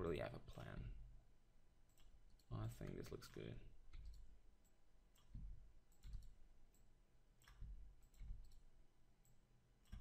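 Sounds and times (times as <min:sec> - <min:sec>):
keyboard and mouse clicks: 0:01.9 - 0:10.0.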